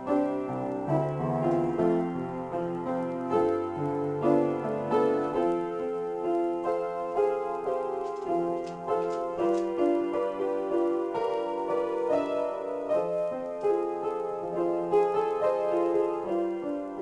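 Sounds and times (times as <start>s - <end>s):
slow improvised piano: 0.0s - 17.0s.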